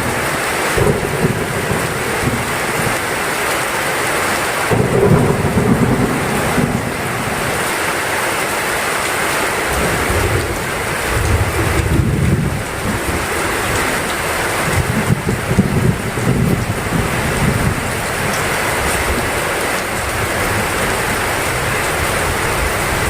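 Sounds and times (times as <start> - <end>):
low rolling thunder: 0.0 - 3.2, 4.7 - 8.3, 9.6 - 23.0
heavy rain pouring: 0.0 - 23.0.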